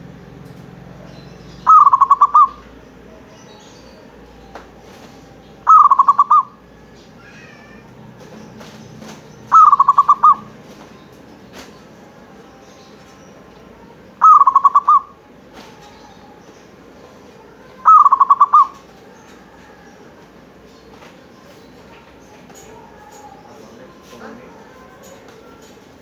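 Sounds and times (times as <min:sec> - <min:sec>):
dove cooing: 0:00.9 - 0:26.0.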